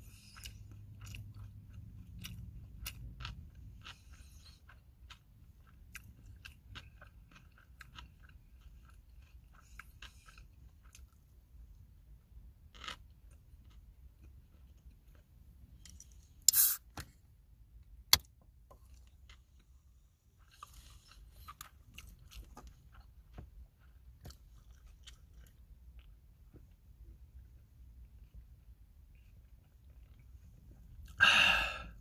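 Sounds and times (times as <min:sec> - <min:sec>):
chewing and eating: 0:00.0 - 0:16.4, 0:18.6 - 0:31.8.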